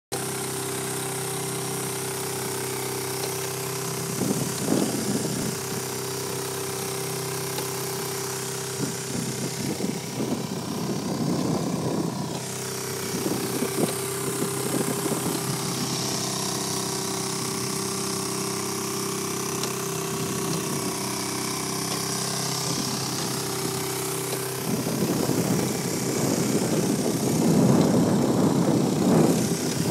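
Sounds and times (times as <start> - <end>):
motor humming: 0.1 - 29.9.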